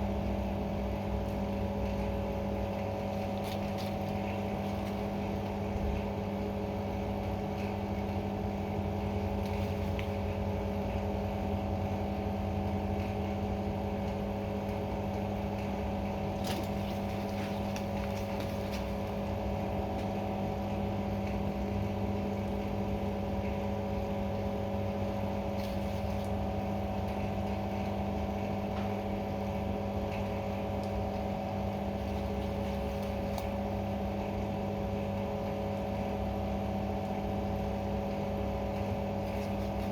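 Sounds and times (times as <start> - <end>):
mechanical hum: 0.0 - 39.9.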